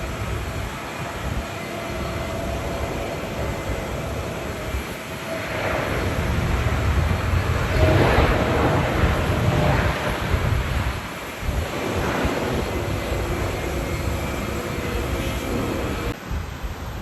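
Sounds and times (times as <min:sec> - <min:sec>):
jet engines of landing airliner: 0:00.0 - 0:17.0
wind rumbling on microphone: 0:00.0 - 0:17.0.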